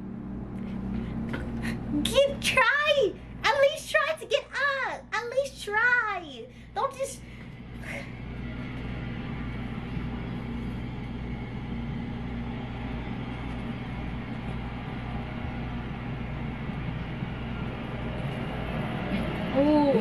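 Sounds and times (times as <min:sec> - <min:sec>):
low rumbling drone: 0:00.0 - 0:03.5, 0:06.5 - 0:20.0.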